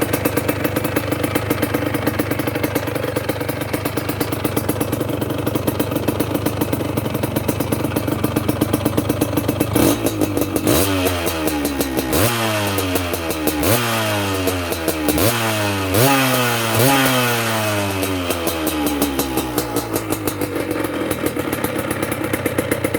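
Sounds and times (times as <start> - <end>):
motorcycle idling and revving: 0.0 - 22.9.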